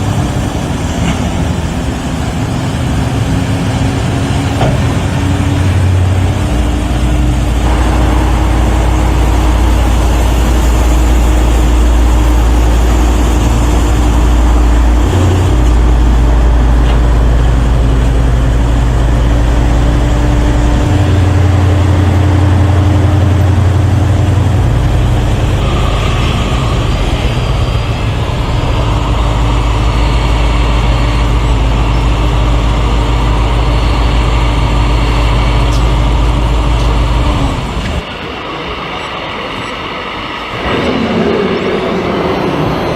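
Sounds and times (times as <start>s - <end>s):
heavy vehicle engine rumble: 0.0s - 42.9s.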